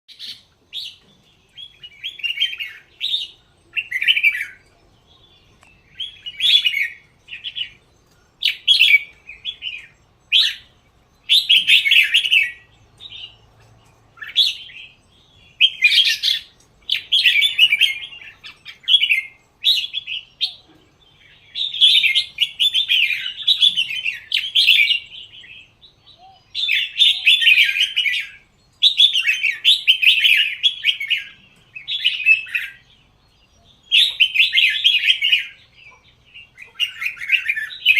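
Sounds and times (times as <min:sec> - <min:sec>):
bird singing warbling phrases: 0:00.1 - 0:37.9.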